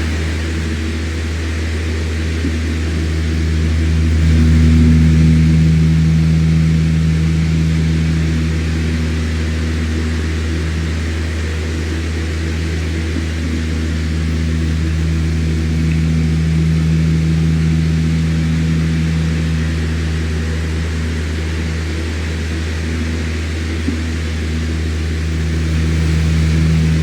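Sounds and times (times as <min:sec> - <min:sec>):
electric fan running: 0:00.0 - 0:27.0.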